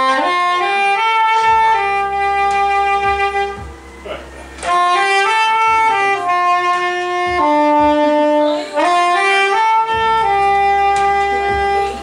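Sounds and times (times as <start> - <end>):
saxophone slow melody: 0.0 - 12.0.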